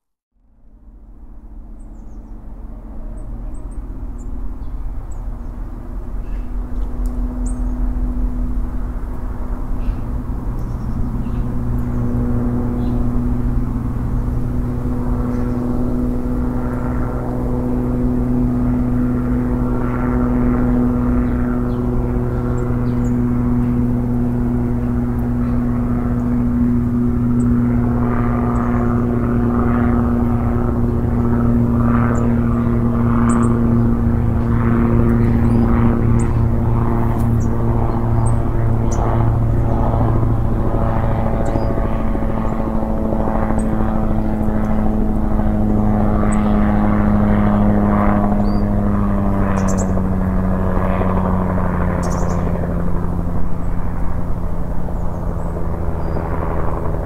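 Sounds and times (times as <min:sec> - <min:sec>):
aircraft engine drone: 0:00.4 - 0:57.0.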